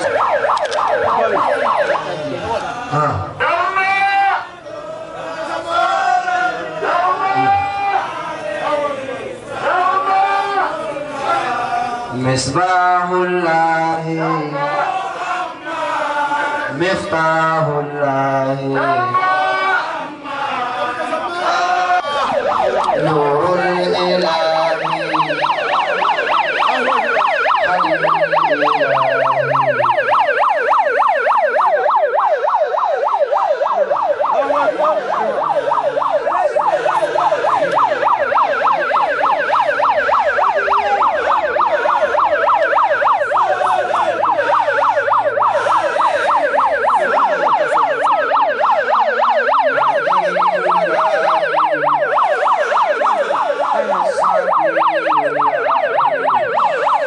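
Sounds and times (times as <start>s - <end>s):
megaphone siren warbling: 0.0s - 4.6s, 6.8s - 8.0s, 9.6s - 15.0s, 16.6s - 19.9s, 21.2s - 57.0s
faint crowd voices: 0.0s - 57.0s.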